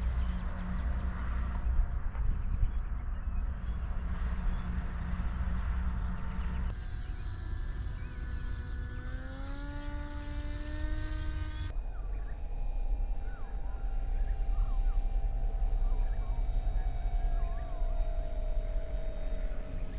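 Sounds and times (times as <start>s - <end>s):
electric motor propeller whine: 0.0s - 19.9s
wind rumbling on microphone: 0.0s - 19.9s.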